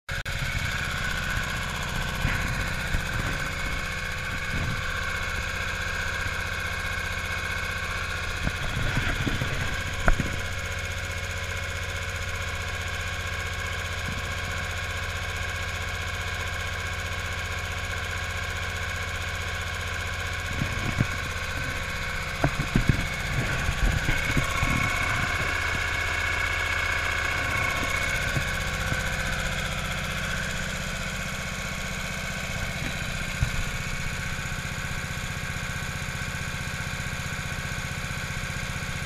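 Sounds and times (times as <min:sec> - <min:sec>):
diesel generator running: 0:00.1 - 0:39.0.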